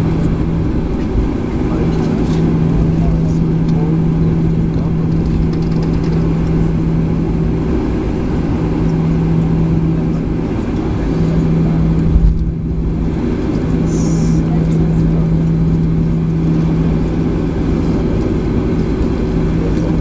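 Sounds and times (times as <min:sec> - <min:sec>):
jet cabin drone: 0:00.0 - 0:20.0.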